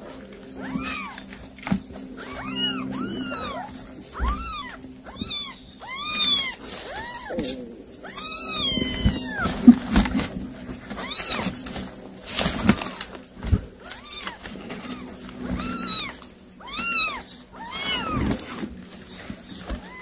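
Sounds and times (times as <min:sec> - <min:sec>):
kittens mewing: 0:00.5 - 0:11.9, 0:13.8 - 0:20.0.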